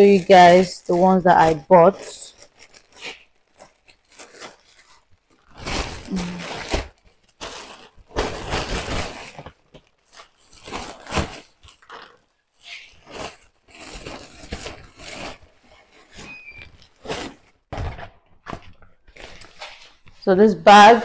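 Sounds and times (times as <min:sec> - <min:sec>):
plastic and paper wrapping rustling: 0:00.0 - 0:20.9.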